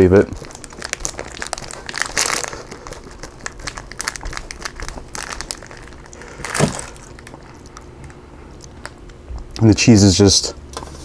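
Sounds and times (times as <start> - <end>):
seaweed crinkling and crackling: 0.0 - 9.0.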